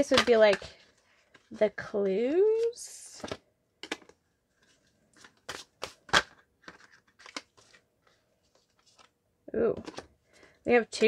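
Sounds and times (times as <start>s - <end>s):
cards shuffling: 0.0s - 9.2s.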